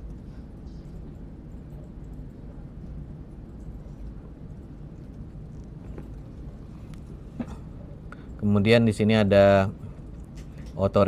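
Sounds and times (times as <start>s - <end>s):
low room rumble: 0.0s - 11.0s.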